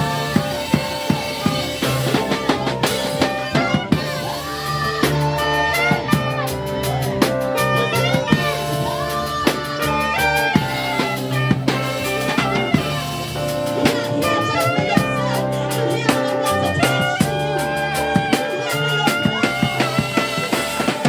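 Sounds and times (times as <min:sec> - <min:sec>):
drum kit beat: 0:00.0 - 0:21.0
live band music: 0:00.0 - 0:21.0
pitch-bending lead melody: 0:00.0 - 0:21.0.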